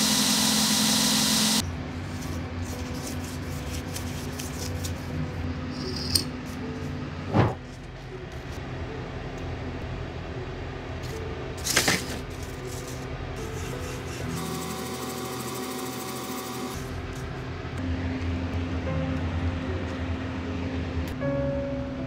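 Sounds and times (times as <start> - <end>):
faint background piano music: 1.6 - 14.4, 16.7 - 22.0.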